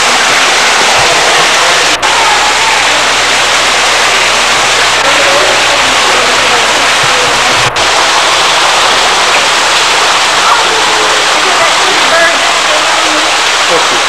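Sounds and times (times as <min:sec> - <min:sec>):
loud rushing noise: 0:00.0 - 0:13.7.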